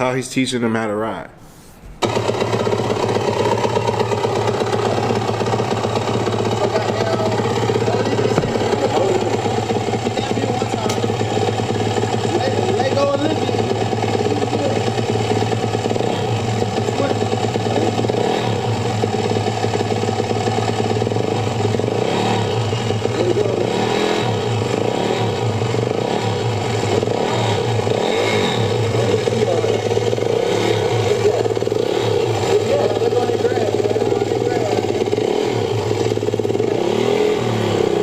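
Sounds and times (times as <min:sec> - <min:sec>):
dirt bike engine revving: 0:02.0 - 0:38.0.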